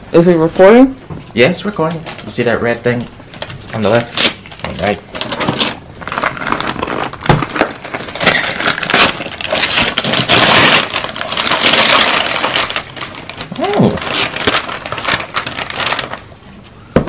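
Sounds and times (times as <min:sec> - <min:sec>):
wrapping paper tearing and crumpling: 0:02.0 - 0:16.4.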